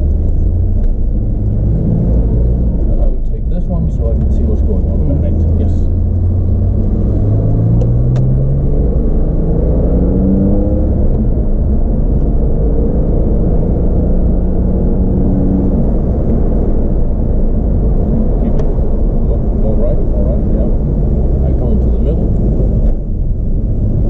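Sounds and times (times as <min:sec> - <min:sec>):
car engine accelerating: 0:00.0 - 0:24.0
low road rumble: 0:00.0 - 0:24.0.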